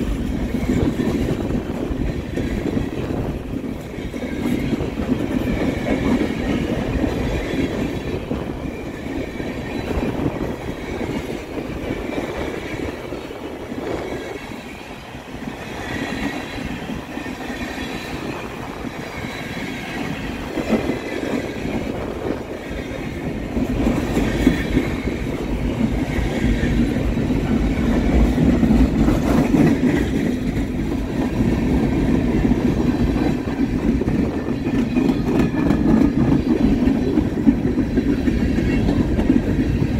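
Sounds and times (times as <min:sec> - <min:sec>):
freight train rolling on rails: 0:00.0 - 0:39.9.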